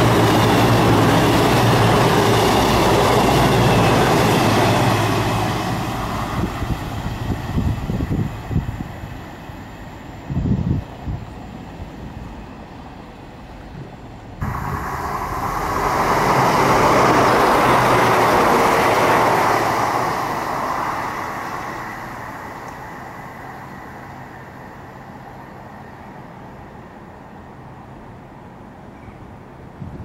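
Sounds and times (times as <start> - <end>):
diesel train passing: 0.0 - 29.8.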